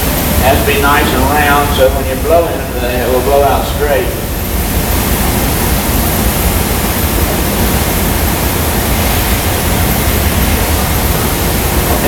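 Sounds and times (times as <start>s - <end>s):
fans running: 0.0s - 12.0s
furnaces burning with roar: 0.0s - 12.0s.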